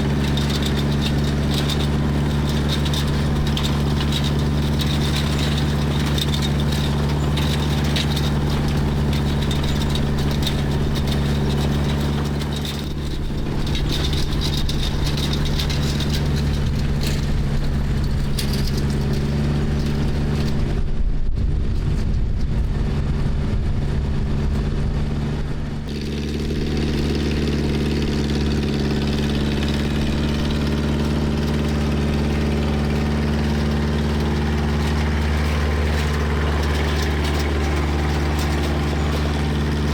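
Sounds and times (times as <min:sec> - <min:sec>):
hay baler clatter: 0:00.0 - 0:39.9
tractor engine running: 0:00.0 - 0:39.9.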